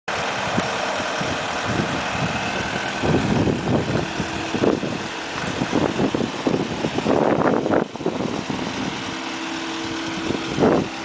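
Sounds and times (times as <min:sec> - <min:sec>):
diesel engine idling: 0:00.1 - 0:11.0
wind buffeting microphone: 0:00.1 - 0:11.0.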